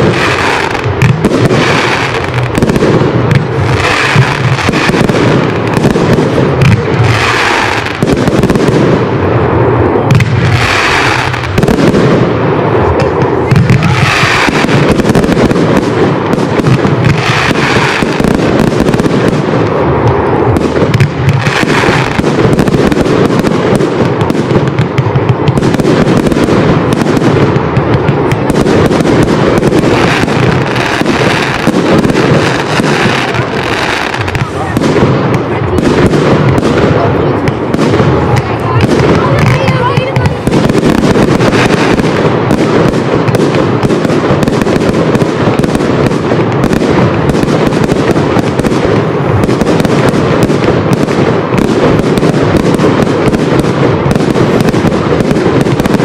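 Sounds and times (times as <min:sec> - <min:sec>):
fireworks bursts and crackling: 0:00.0 - 0:56.0.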